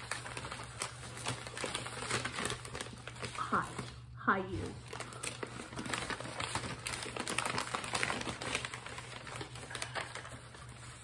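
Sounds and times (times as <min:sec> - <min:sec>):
newspaper rustling and crinkling: 0:00.0 - 0:11.0.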